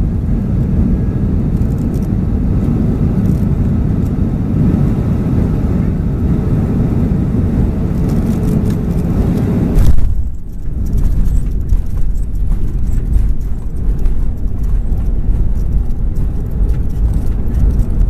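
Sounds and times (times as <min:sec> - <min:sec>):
air and jet engines rushing: 0:00.0 - 0:18.0
wheels rumbling on runway: 0:00.0 - 0:18.0.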